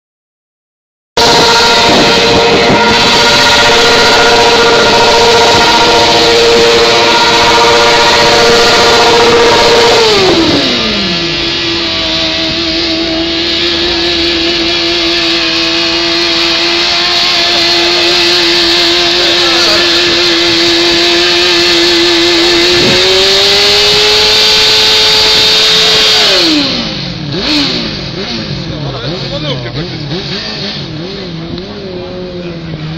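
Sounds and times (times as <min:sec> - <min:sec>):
motorcycle engine revving high: 0:01.2 - 0:32.9
spinning tyre screeching: 0:01.2 - 0:32.9.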